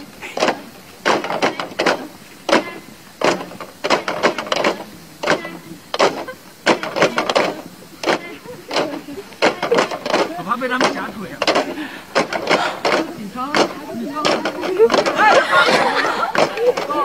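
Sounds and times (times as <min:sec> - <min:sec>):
bamboo poles clacking together: 0:00.0 - 0:17.0.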